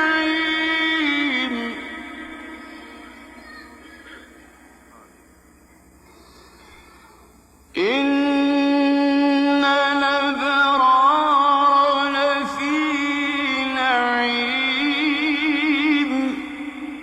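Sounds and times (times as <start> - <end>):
man chanting with vibrato: 0.0 - 5.3, 7.7 - 17.0.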